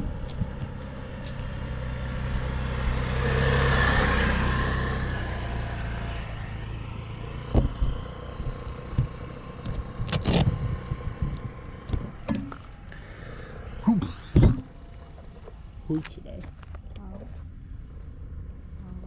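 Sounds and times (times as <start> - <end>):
motor passing by: 0.0 - 15.8.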